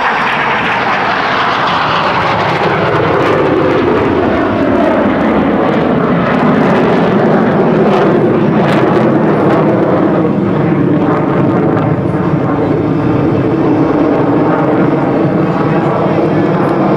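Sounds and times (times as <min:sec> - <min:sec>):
jet engine roar: 0:00.0 - 0:16.9.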